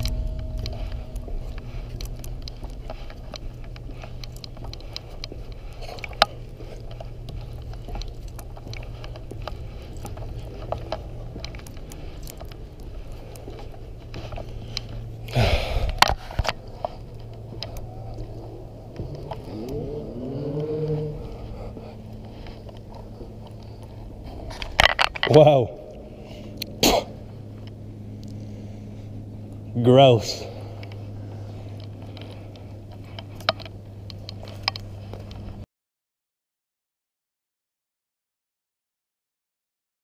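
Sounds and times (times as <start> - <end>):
low rumble: 0.0 - 35.6.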